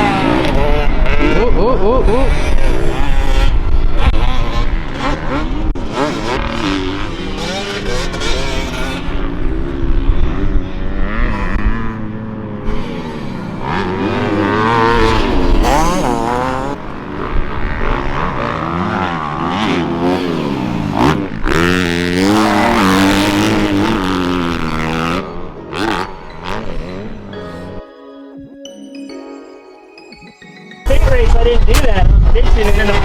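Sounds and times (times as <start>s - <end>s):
dirt bike engine revving: 0.0s - 27.8s.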